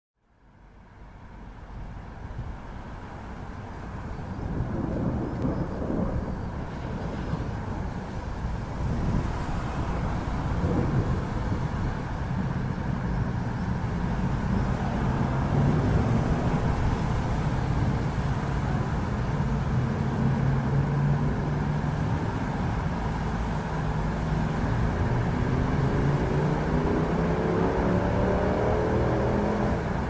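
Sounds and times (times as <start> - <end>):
thunder rumble: 3.9 - 30.0
vehicle engine accelerating: 4.1 - 30.0.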